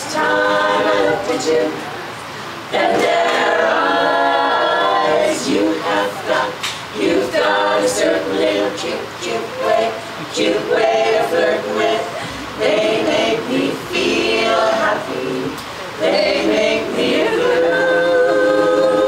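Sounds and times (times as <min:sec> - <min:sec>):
women singing in harmony: 0:00.0 - 0:19.0.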